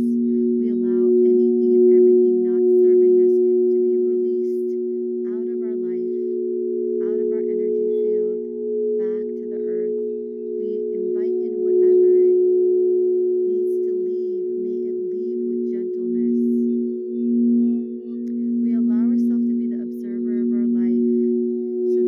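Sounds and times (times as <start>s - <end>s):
singing bowls ringing: 0.0s - 22.0s.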